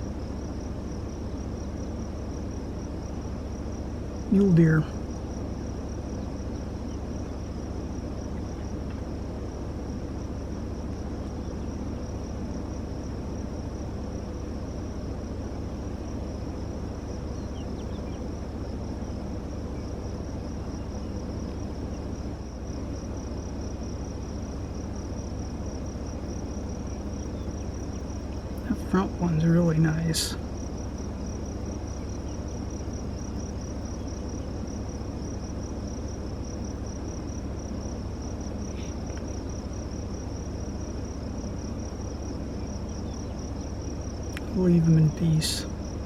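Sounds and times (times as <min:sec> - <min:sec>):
insects trilling: 0:00.0 - 0:46.0
low steady rumble: 0:00.0 - 0:46.0.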